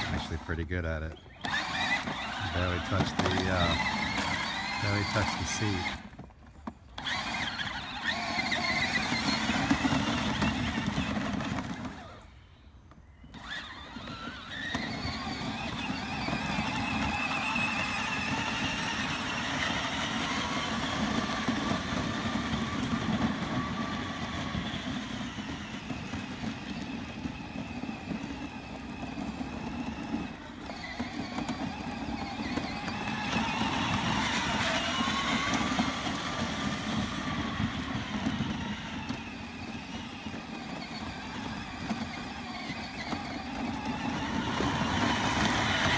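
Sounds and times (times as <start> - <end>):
electric motor whining: 0.0 - 45.9.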